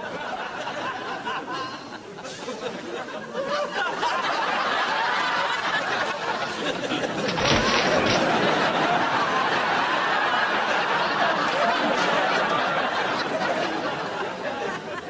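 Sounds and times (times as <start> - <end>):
people laughing and chattering: 0.0 - 15.0.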